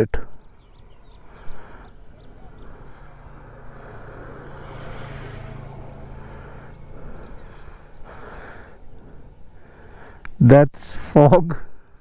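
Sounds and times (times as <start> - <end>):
vehicle engine passing: 0.4 - 10.3.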